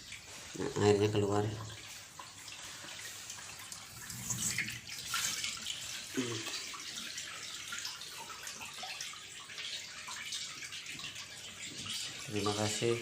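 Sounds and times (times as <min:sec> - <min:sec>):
water draining and splashing: 0:00.0 - 0:13.0.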